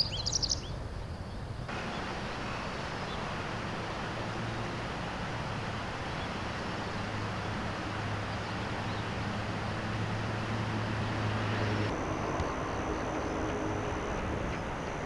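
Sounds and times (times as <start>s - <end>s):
low motor hum: 1.6s - 15.0s.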